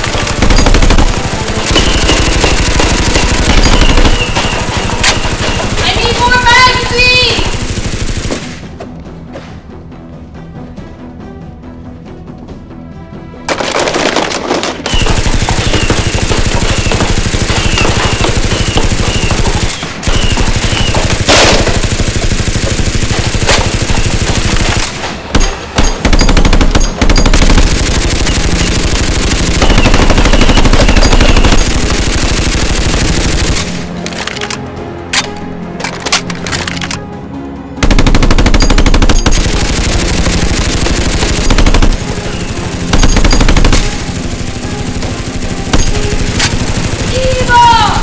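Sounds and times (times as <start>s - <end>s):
rapid machine-gun fire: 0.0s - 8.6s, 13.5s - 33.9s, 37.8s - 48.0s.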